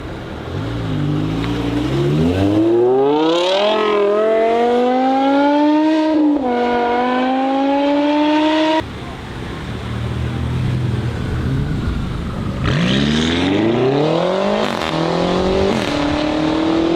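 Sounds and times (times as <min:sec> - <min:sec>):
car engine accelerating hard: 0:00.4 - 0:08.8, 0:09.9 - 0:16.9.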